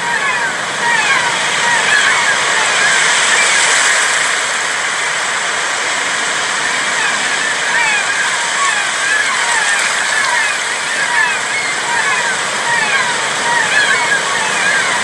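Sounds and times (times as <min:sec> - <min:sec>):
waves washing onto beach: 0:00.0 - 0:15.0.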